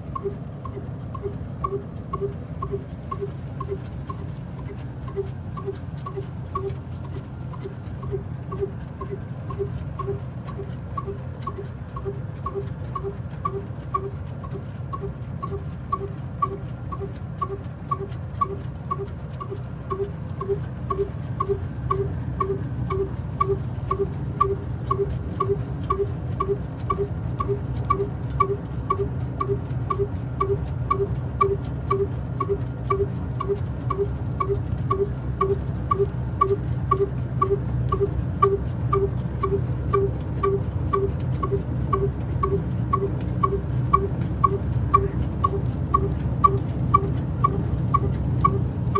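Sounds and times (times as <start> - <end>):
diesel engine running slowly: 0.0 - 48.9.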